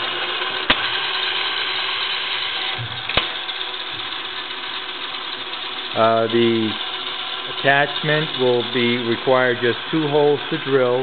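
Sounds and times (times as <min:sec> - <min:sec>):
faint motor hum: 0:00.0 - 0:11.0
lathe whirring: 0:00.0 - 0:11.0.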